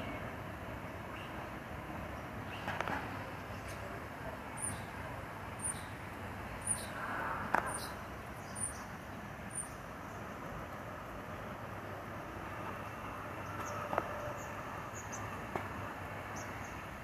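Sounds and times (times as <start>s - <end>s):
distant train rumble: 0.0s - 17.0s.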